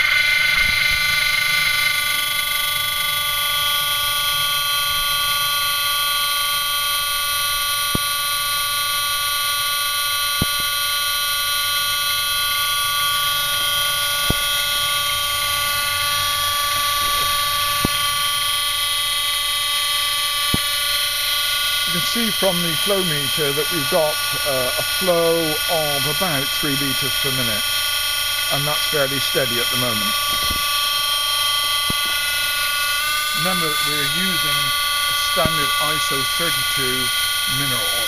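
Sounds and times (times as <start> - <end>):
hydraulic pump whining: 0.0 - 38.0.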